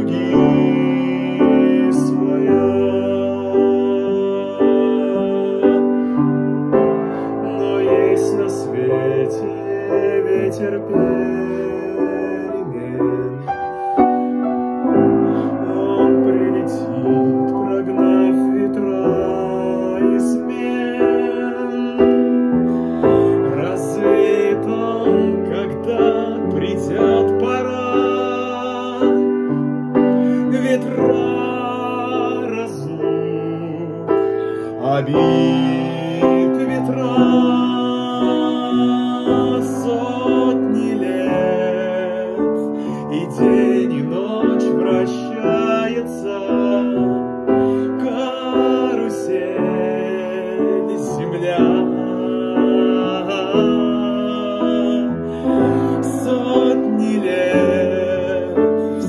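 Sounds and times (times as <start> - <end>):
man singing: 0.0 - 59.0
upright piano chords: 0.0 - 59.0.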